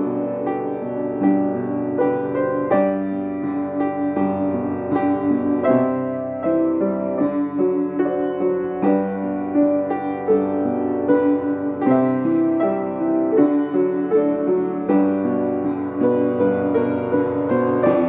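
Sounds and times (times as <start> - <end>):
piano keyboard music: 0.0 - 18.0.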